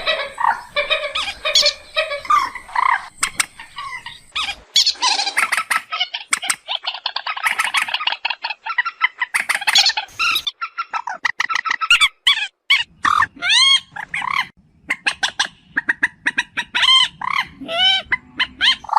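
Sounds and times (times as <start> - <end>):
moorhen calling: 0.0 - 18.9.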